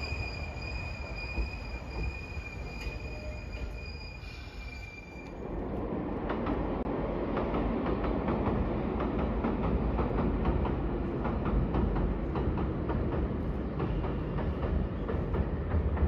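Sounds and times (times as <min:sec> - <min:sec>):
train rumbling over bridge: 0:00.0 - 0:16.0.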